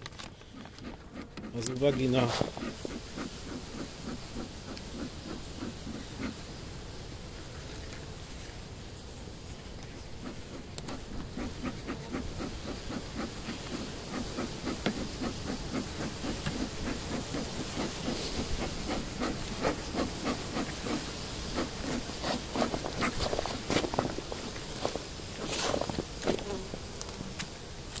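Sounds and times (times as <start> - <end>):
bellows puffing hiss: 0.2 - 27.9.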